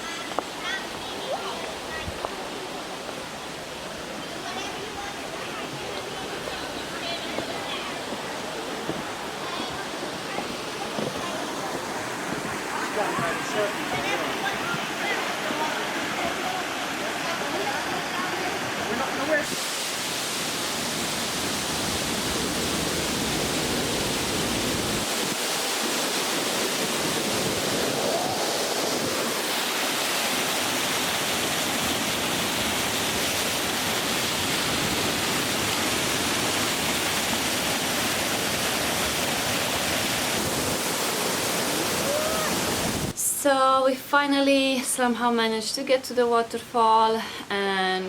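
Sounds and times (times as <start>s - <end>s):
waterfall roaring: 0.0s - 43.2s.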